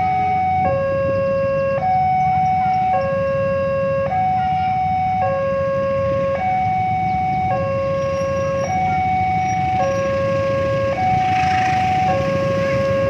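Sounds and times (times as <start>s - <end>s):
level crossing two-tone alarm: 0.0s - 13.0s
low rumble of traffic: 0.0s - 13.0s.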